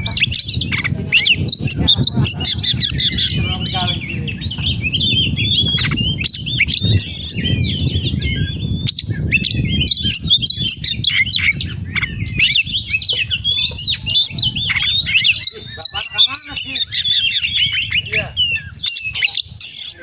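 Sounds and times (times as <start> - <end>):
low rumble: 0.0 - 18.9
bird singing chirps and whistles: 0.0 - 20.0.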